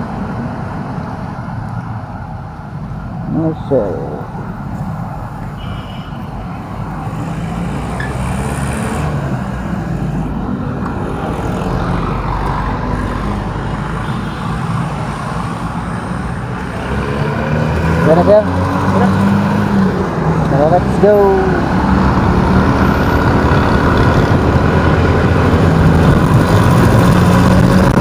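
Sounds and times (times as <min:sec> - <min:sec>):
city street traffic: 0:00.0 - 0:28.0.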